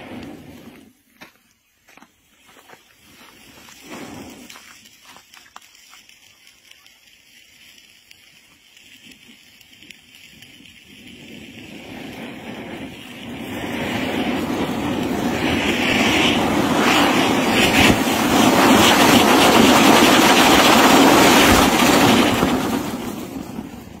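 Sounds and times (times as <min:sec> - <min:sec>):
fireworks hissing sparks: 0:00.0 - 0:24.0.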